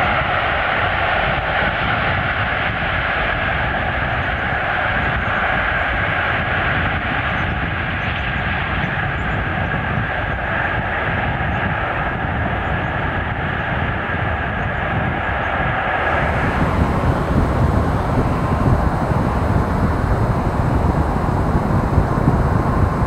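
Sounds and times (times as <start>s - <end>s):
jet engines roaring with whine: 0.1s - 23.0s.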